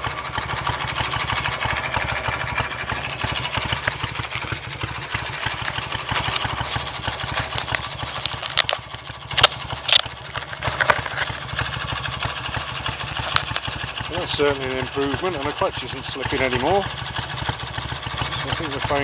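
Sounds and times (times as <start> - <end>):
motorcycle engine idling: 0.0 - 19.0
sharp clicks: 0.4 - 18.9.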